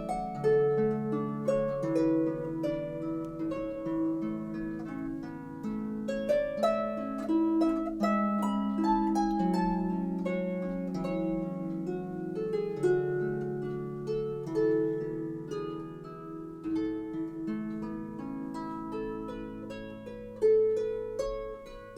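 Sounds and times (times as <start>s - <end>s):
solo harp music: 0.0s - 21.9s.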